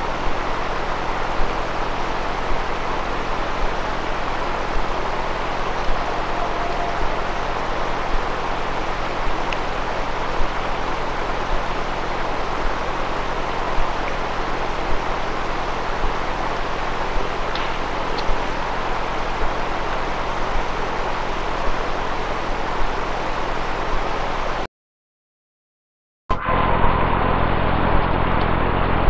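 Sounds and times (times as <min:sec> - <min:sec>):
steady hiss and low hum: 0:00.0 - 0:24.6.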